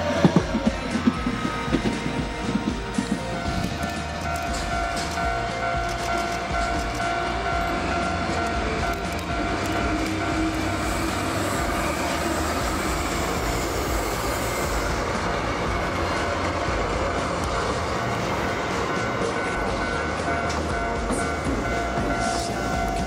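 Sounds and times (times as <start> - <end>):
diesel locomotive engine: 0.0 - 23.0
train wheels clacking over rail joints: 0.0 - 23.0.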